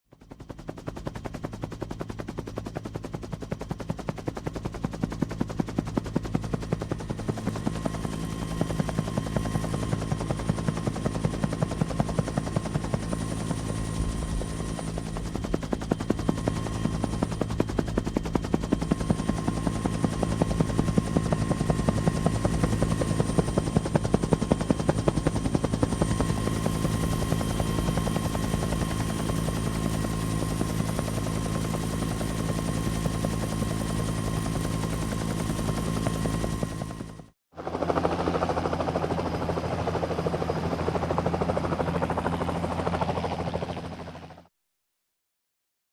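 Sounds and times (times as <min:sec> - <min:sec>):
helicopter rotor chopping: 0:00.2 - 0:44.4
helicopter engine drone: 0:00.2 - 0:44.5.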